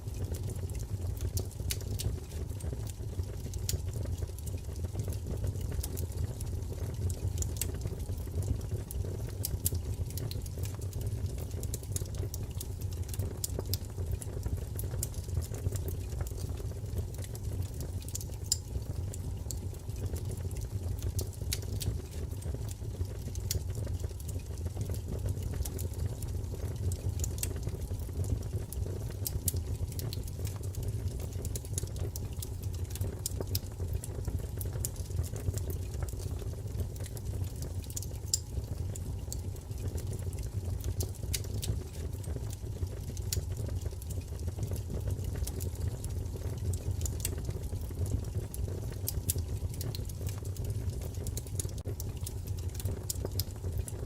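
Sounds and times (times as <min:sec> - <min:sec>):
low rumble of fire flames: 0:00.0 - 0:54.0
wood fire crackles and pops: 0:00.0 - 0:54.0.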